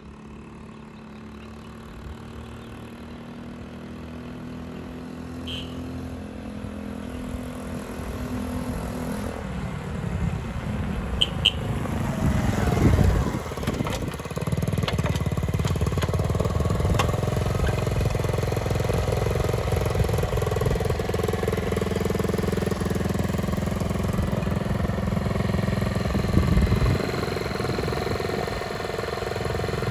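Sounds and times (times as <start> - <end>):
small motorbike engine: 0.0 - 29.9.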